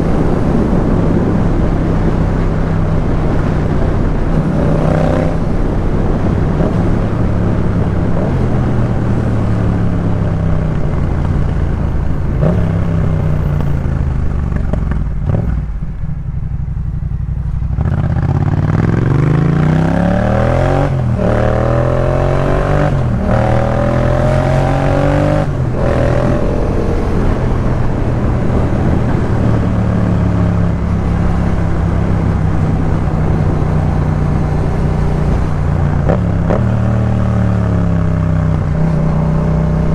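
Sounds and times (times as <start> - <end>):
motorcycle engine with upshifts: 0.0 - 39.9.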